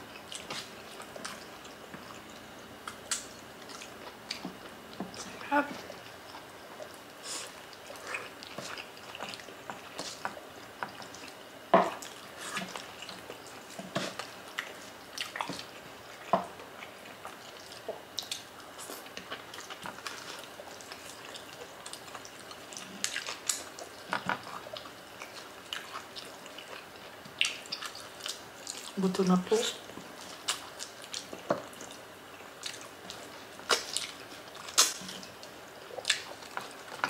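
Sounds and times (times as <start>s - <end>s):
wet chewing and mouth smacks: 0.1s - 29.0s, 29.8s - 37.0s.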